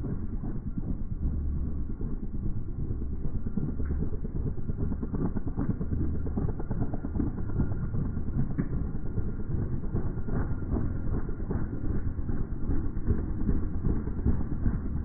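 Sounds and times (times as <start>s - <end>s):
helicopter rotor rumble: 0.0s - 15.0s.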